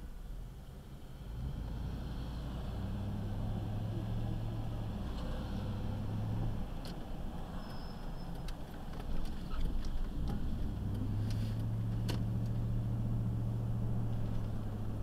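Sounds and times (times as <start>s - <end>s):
truck engine drone from cab: 0.0s - 15.0s.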